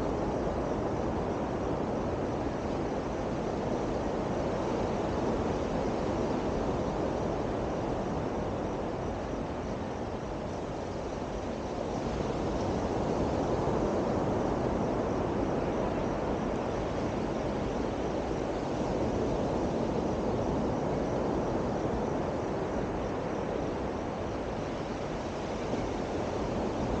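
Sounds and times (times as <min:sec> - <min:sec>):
wind: 0:00.0 - 0:27.0.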